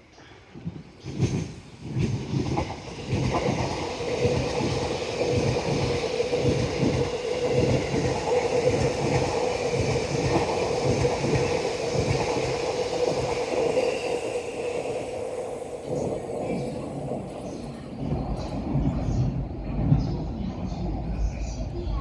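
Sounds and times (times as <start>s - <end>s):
train hum: 0.0s - 22.0s.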